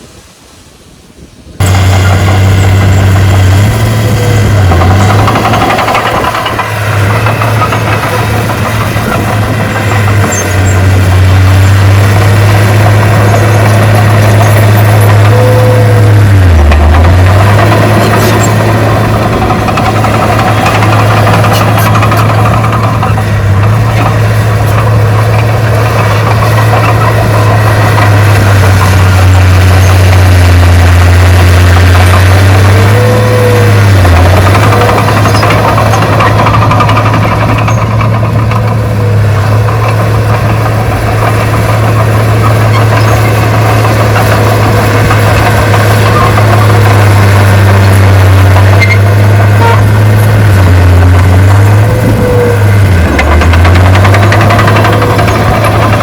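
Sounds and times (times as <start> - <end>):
heavy diesel engine droning: 1.6 - 56.0.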